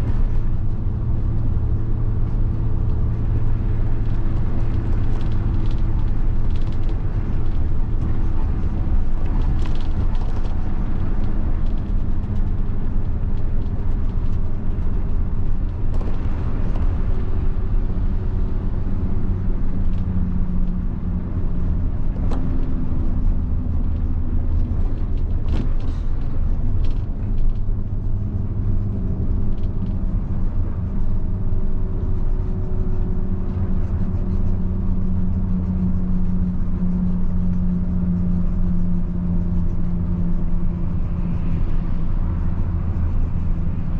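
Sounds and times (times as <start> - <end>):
bus diesel engine rumbling: 0.0 - 43.9.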